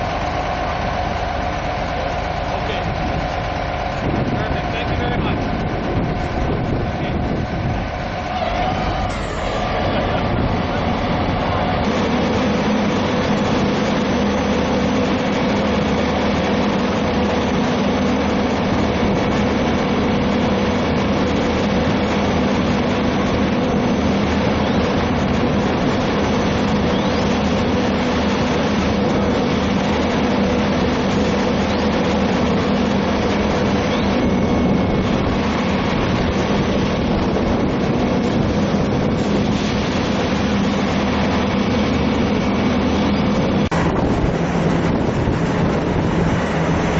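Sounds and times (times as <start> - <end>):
heavy engine idling: 0.0 - 46.9.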